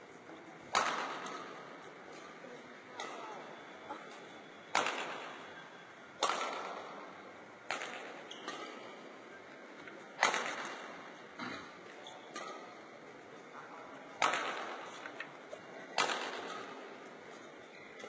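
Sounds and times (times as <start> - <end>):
rackets striking shuttlecocks: 0.6 - 5.6, 6.2 - 13.3, 14.1 - 18.0.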